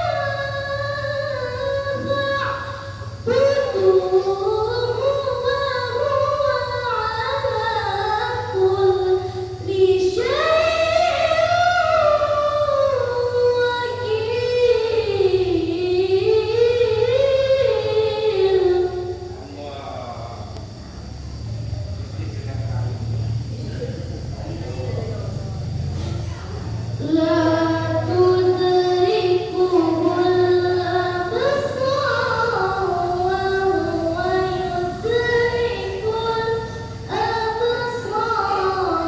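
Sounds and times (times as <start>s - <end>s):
child reciting melodically: 0.0s - 20.0s, 25.8s - 39.0s.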